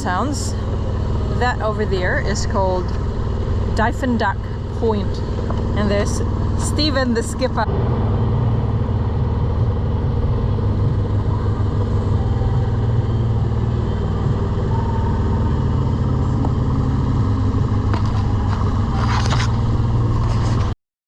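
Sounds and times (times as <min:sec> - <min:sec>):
boat engine low rumble: 0:00.0 - 0:20.8.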